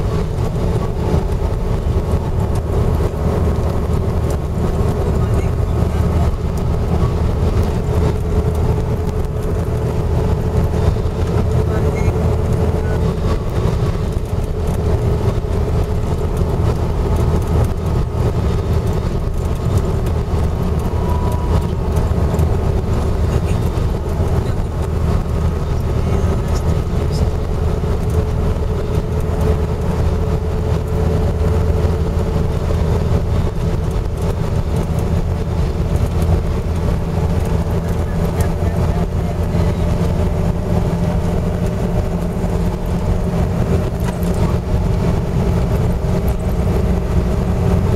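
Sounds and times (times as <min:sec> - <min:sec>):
car road noise: 0:00.0 - 0:47.9.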